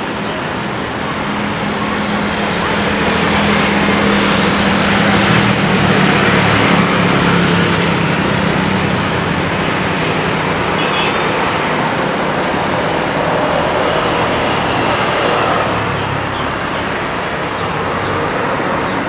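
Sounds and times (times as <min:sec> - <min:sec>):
jet airliner engines passing: 0:00.0 - 0:19.0.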